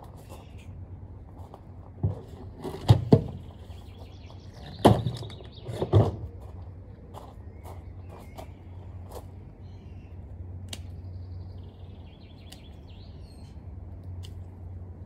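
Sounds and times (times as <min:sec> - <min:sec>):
birds chirping: 0:00.1 - 0:00.9, 0:02.2 - 0:13.8.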